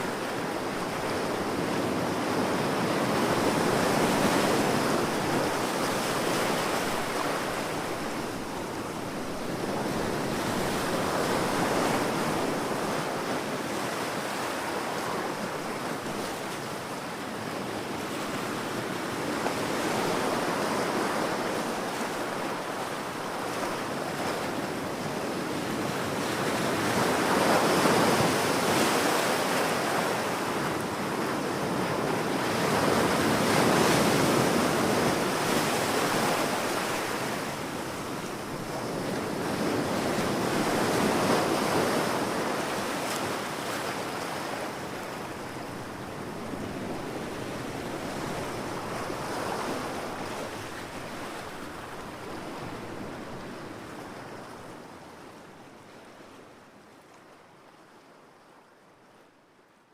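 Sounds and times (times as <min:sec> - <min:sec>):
ocean waves washing onto shore: 0:00.0 - 0:56.7.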